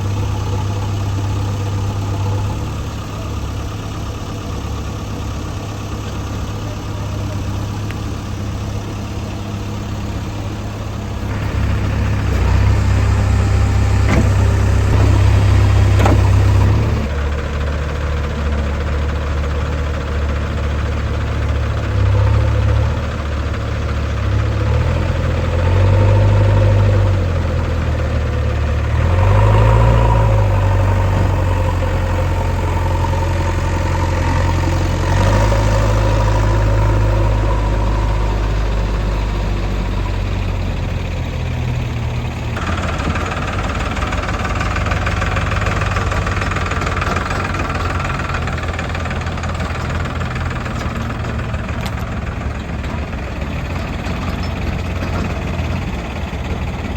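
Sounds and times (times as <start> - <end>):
heavy diesel engine revving: 0.0 - 56.9.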